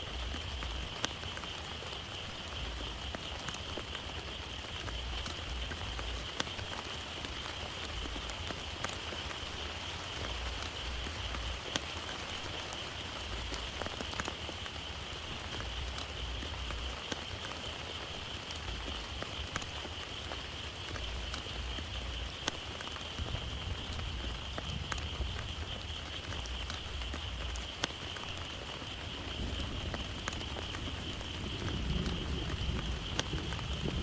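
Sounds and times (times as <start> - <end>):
heavy rain: 0.0 - 34.0
raindrops ticking: 0.0 - 34.0.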